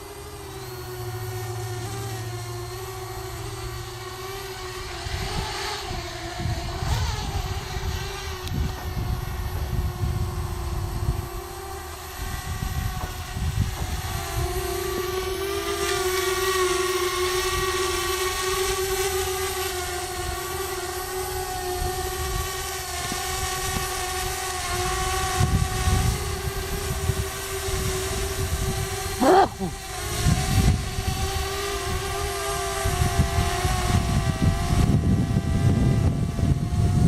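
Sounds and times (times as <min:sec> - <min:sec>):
quadcopter propellers whining: 0:00.0 - 0:37.0.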